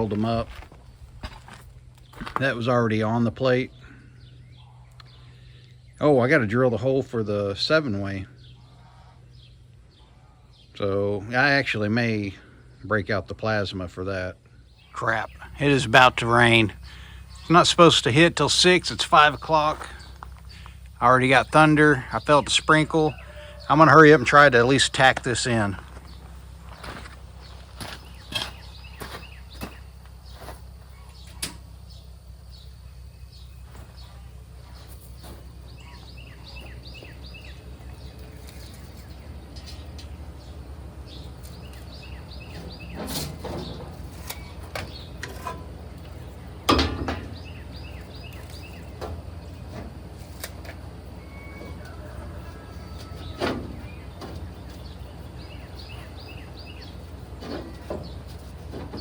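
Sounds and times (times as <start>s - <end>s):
birds chirping faintly: 0.0s - 59.0s
steady low hum: 0.0s - 59.0s.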